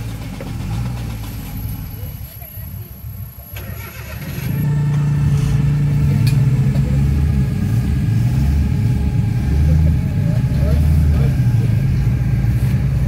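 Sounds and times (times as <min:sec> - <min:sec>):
car engine running steadily: 0:00.0 - 0:03.5, 0:04.2 - 0:13.0.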